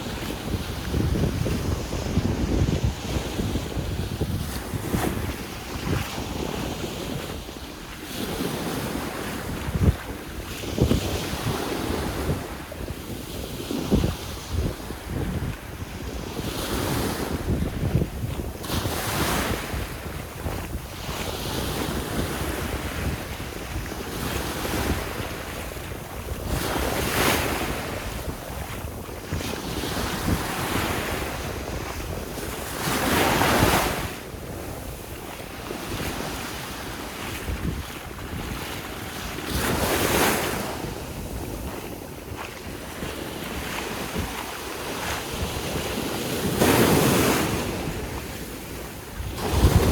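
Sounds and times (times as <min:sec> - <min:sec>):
sea waves breaking on shore: 0:00.0 - 0:49.9
wind buffeting microphone: 0:00.0 - 0:49.9.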